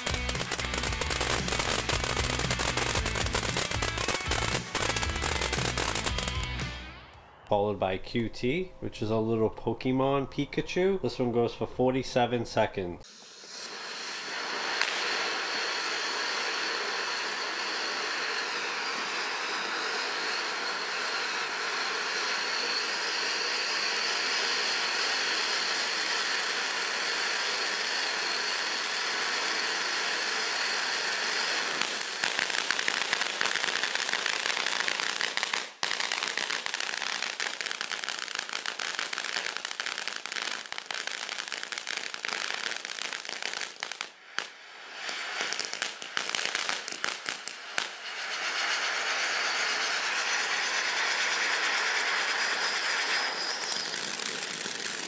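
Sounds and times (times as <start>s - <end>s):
firework fountain hissing: 0.0s - 7.4s, 13.0s - 55.0s
firework crackling: 0.0s - 8.2s, 13.0s - 55.0s.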